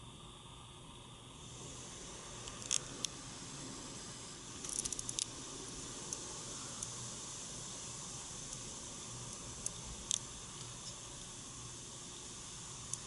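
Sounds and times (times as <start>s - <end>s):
car wash water jets hissing: 0.0s - 13.0s.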